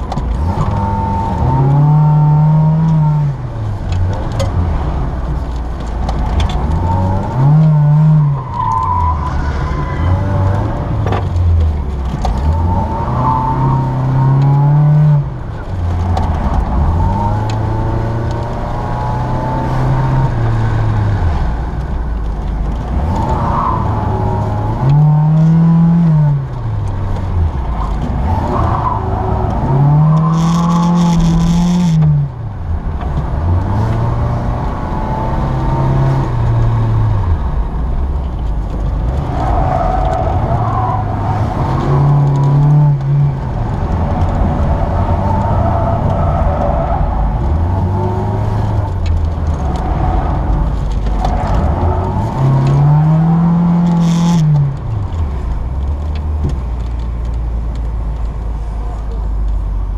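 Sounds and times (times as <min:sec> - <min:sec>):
car engine revving: 0:00.0 - 0:59.4.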